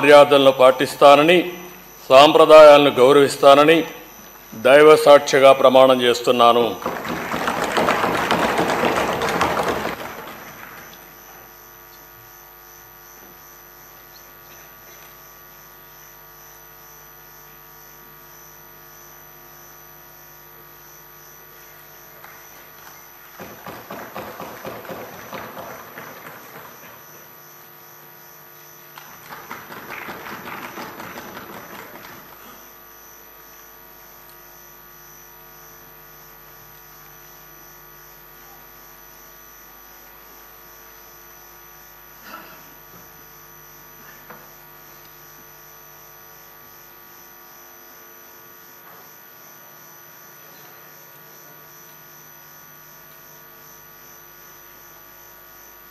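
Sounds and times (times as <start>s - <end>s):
dense room noise: 0.0s - 55.9s
steady electrical hum: 0.0s - 55.9s.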